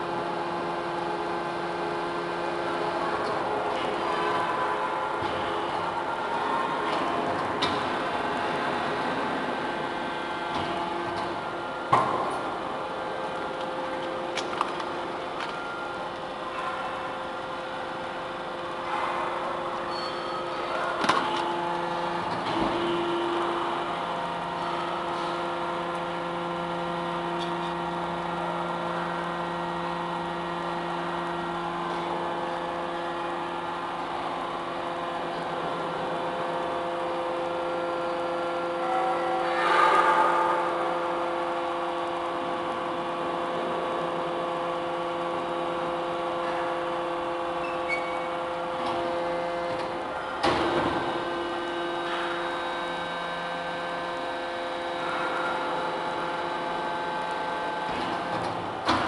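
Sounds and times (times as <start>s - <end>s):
hydraulic pump and motor hum: 0.0s - 59.0s.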